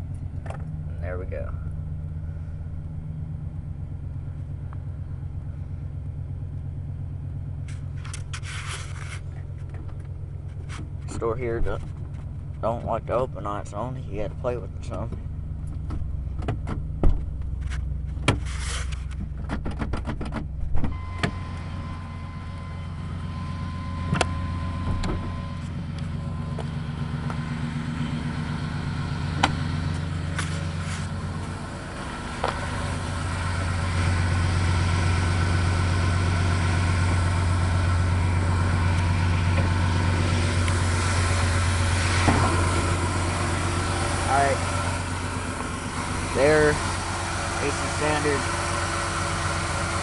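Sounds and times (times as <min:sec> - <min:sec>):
hood clicks and clunks: 0:00.0 - 0:00.9, 0:07.6 - 0:13.2, 0:14.8 - 0:22.7, 0:24.0 - 0:50.0
truck engine idling: 0:00.0 - 0:19.5, 0:20.4 - 0:50.0.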